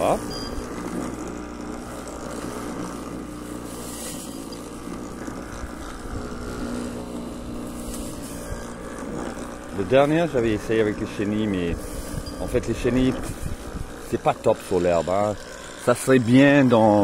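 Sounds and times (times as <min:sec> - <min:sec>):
electric lawn mower humming: 0:00.0 - 0:17.0.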